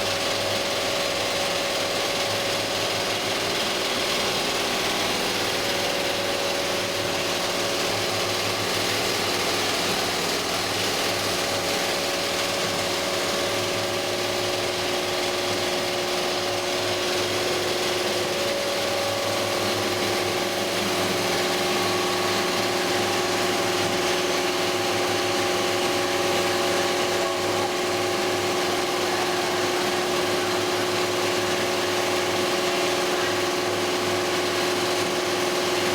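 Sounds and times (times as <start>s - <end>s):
machine humming tones: 0.0s - 35.9s.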